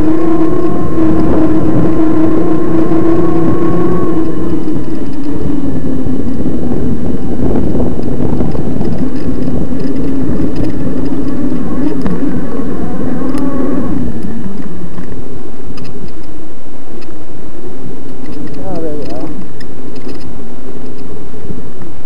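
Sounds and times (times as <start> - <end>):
electric bike motor whining: 0.0 - 22.0
trail rumble: 0.0 - 22.0
wind on microphone: 0.0 - 22.0.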